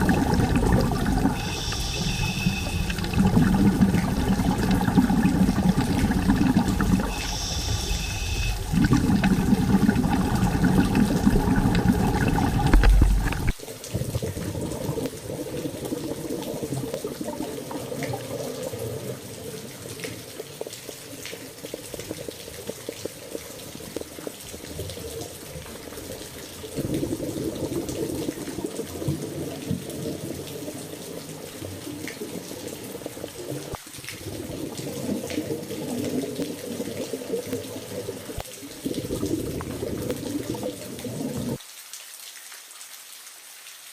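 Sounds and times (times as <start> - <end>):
running splashing water: 0.0 - 41.7.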